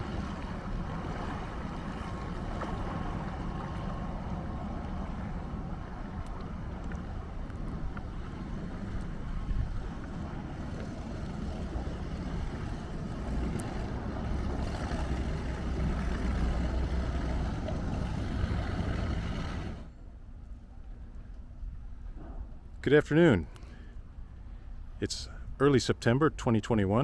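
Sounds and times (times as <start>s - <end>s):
motorboat engine rumbling: 0.0s - 27.0s.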